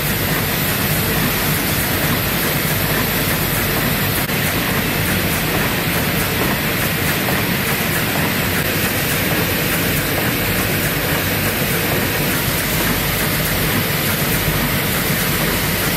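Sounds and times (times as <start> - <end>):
machinery clattering and clicking: 0.0 - 15.9.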